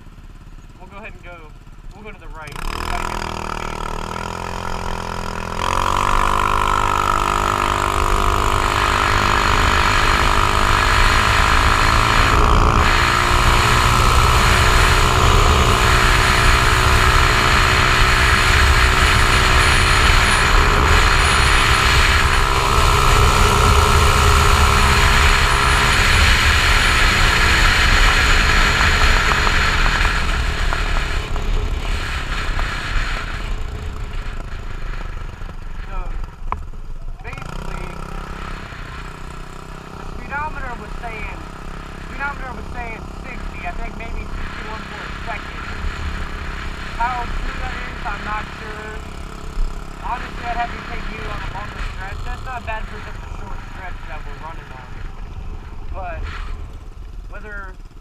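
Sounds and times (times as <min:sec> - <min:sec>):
scooter engine at full throttle: 0:00.0 - 0:58.0.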